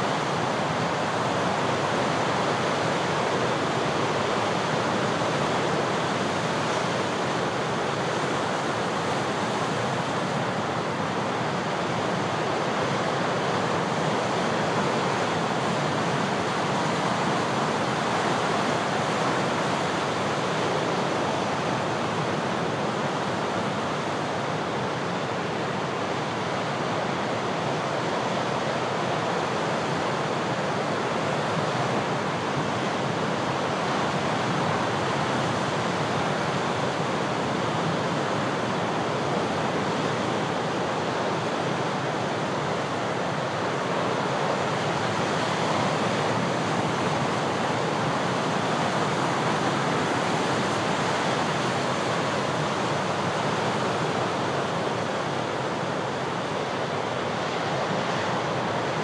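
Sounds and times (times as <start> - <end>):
strong wind: 0.0 - 59.0.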